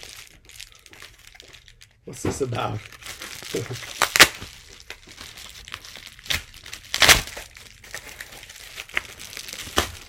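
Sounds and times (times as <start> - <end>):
packaging crinkling and ripping: 0.0 - 10.0.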